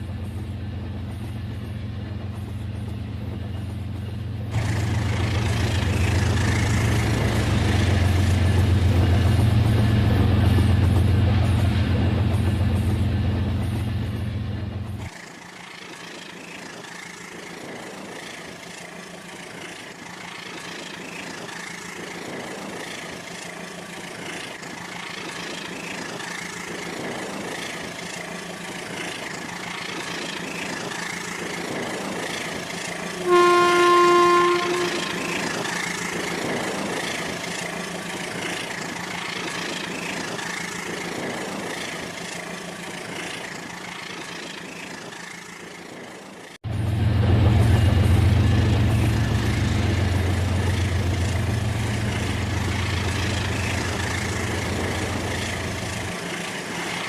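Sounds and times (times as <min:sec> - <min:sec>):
model train engine rumble: 0:00.0 - 0:57.0.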